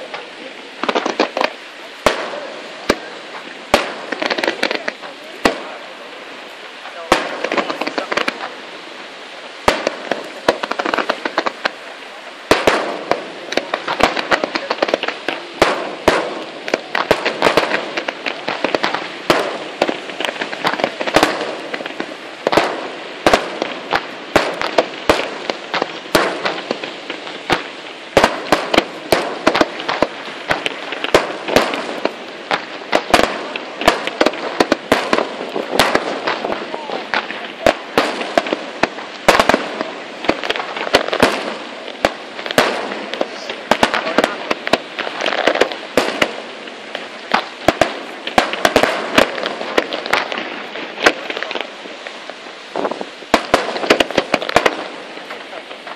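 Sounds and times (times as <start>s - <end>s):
fireworks bangs: 0.0s - 55.9s
fireworks crackle: 0.0s - 55.9s.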